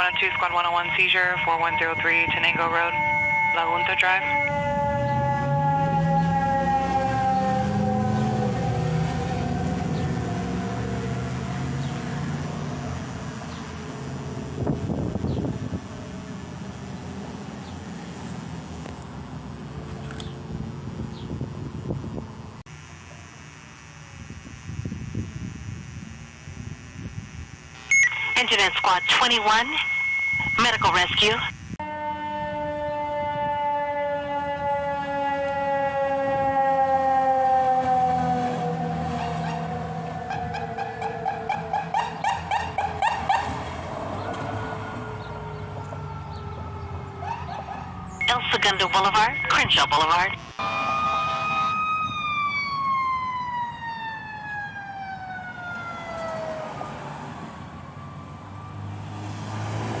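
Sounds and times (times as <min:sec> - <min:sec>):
siren winding down: 0:01.4 - 0:17.2, 0:24.2 - 0:43.6, 0:44.4 - 0:59.1.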